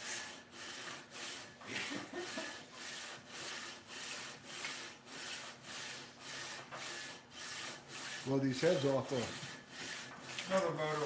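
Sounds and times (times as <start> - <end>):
metal rasping on sandpaper: 0.0 - 1.6, 2.2 - 11.0.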